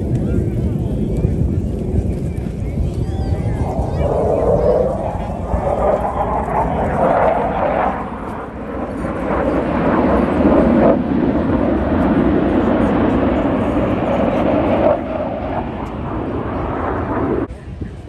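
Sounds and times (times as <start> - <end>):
jets flying past: 0.0 - 17.6.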